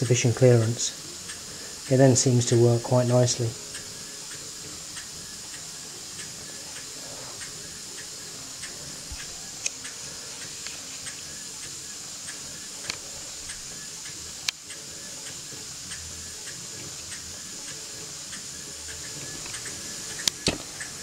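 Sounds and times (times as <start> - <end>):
engine linkage ticking: 0.0 - 21.0
steam engine hissing: 0.0 - 21.0.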